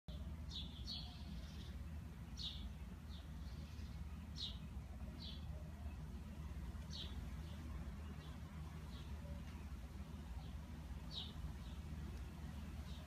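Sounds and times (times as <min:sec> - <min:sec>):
small bird chirping: 0:00.1 - 0:13.0.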